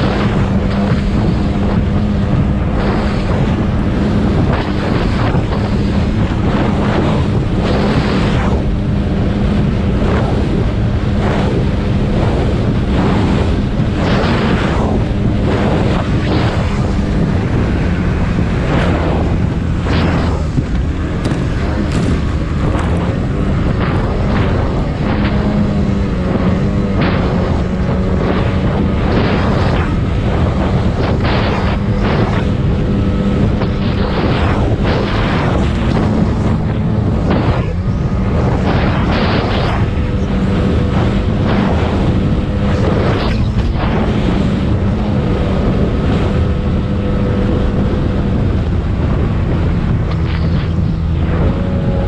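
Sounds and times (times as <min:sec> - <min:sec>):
hull slapping water with spray: 0:00.0 - 0:52.0
speedboat engine drone: 0:00.0 - 0:52.0
wind buffeting microphone: 0:00.0 - 0:52.0.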